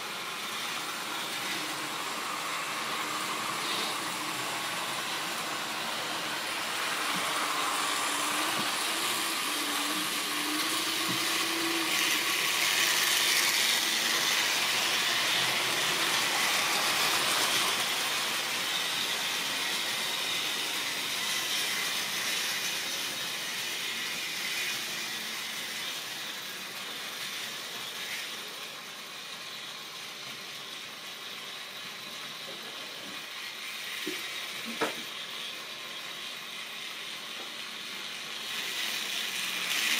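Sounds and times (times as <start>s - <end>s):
model train motor whirring: 0.0s - 39.9s.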